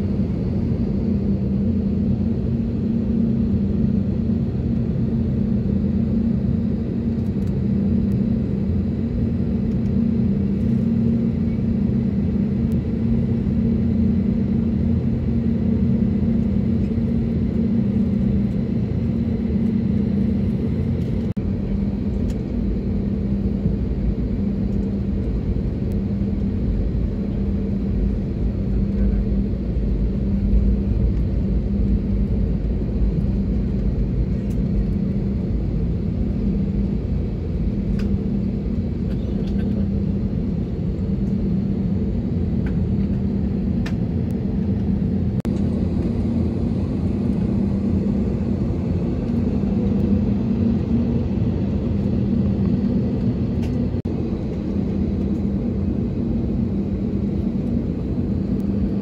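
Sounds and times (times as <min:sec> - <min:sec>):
jet engine drone in cabin: 0:00.0 - 0:59.0.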